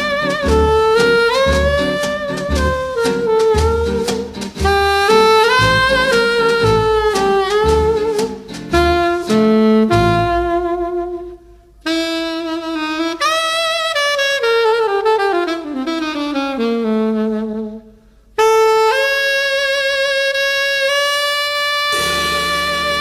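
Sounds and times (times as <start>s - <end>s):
solo saxophone melody: 0.0s - 23.0s.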